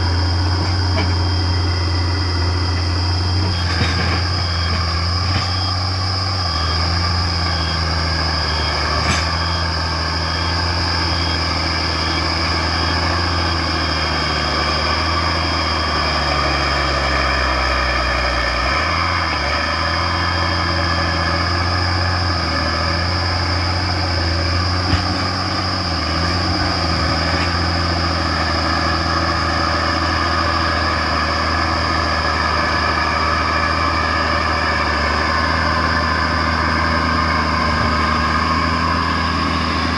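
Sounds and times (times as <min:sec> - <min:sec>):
bulldozer diesel engine under load: 0:00.0 - 0:39.9
high whine: 0:00.0 - 0:39.9.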